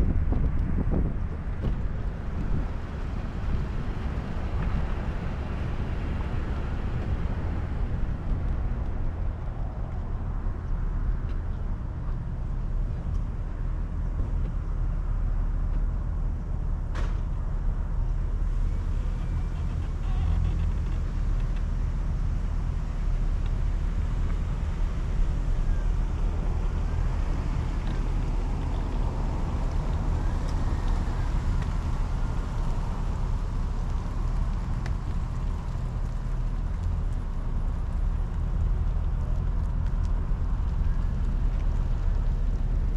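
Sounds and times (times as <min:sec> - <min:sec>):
vehicle engine rumbling: 0:00.0 - 0:42.9.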